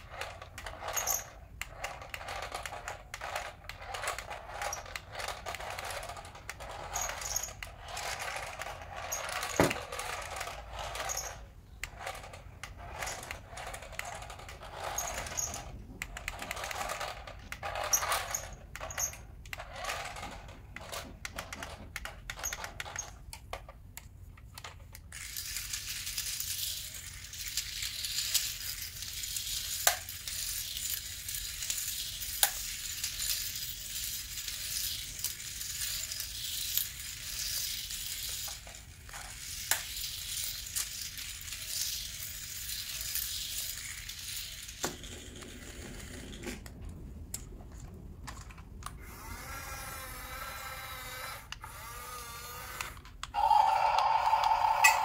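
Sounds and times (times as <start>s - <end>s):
toy electric motor whirring: 0.0s - 46.8s, 48.8s - 55.0s.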